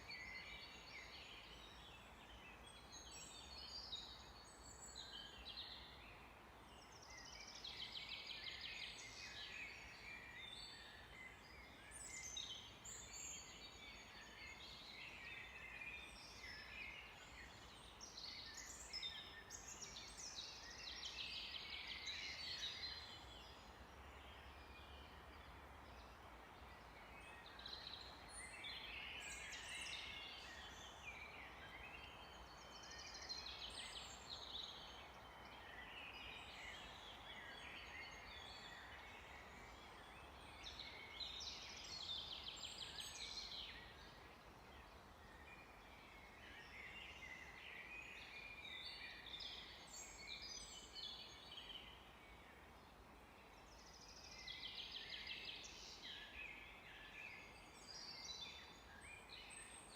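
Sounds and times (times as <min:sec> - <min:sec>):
faint steady hiss: 0:00.0 - 0:59.9
songbirds singing and chirping: 0:00.0 - 0:59.9.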